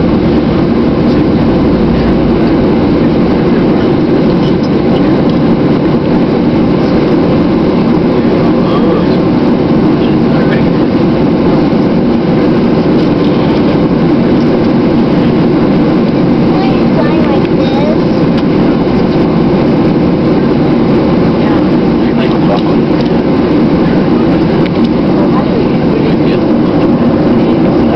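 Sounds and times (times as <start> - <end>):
airliner cabin rumble: 0.0 - 27.9.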